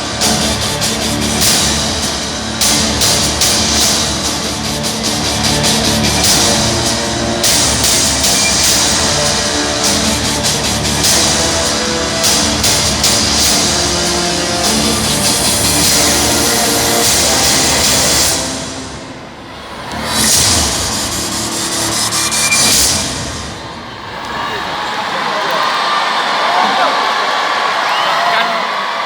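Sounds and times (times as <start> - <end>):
drums: 0.0 - 19.2, 19.8 - 23.9.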